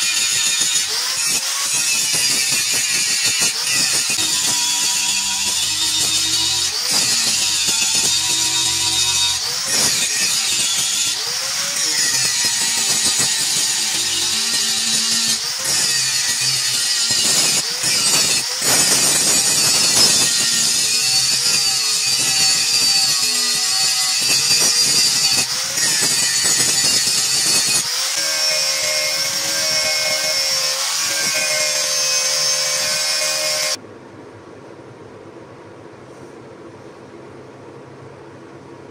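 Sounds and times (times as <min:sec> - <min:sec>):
power grinder grinding metal: 0:00.0 - 0:33.8.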